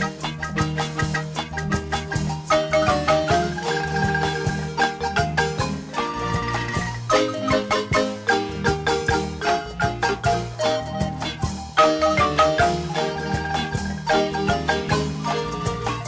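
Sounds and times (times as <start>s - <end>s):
marimba playing folk dance tune: 0.0s - 16.0s.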